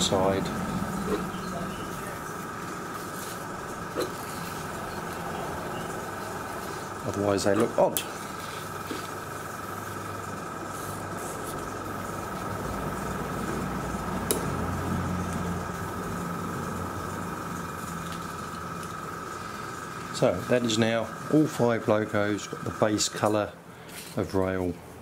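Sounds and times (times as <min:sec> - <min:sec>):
compressor humming and whining: 0:00.0 - 0:25.0.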